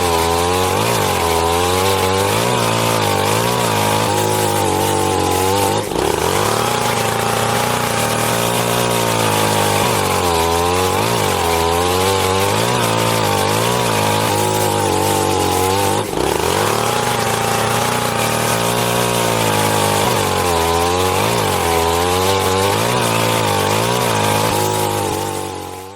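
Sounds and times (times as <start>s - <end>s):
chainsaw engine revving: 0.0s - 25.9s.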